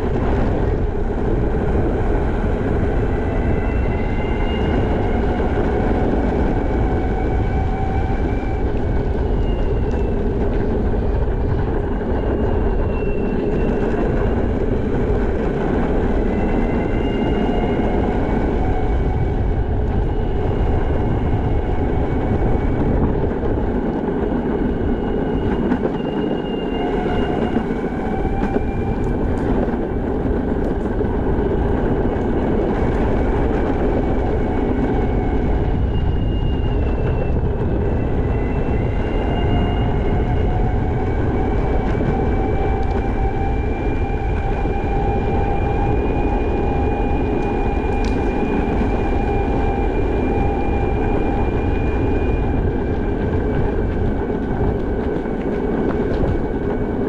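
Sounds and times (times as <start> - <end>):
skateboard wheels rumbling on pavement: 0.0 - 57.0.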